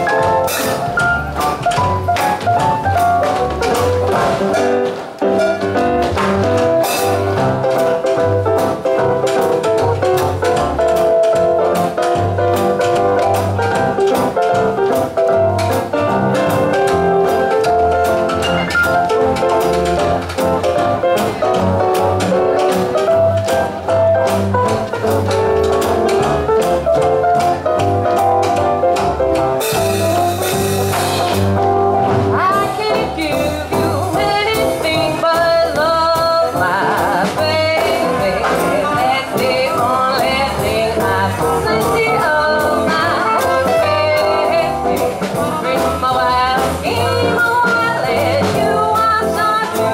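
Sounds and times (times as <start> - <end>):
swing jazz band playing: 0.0 - 49.9.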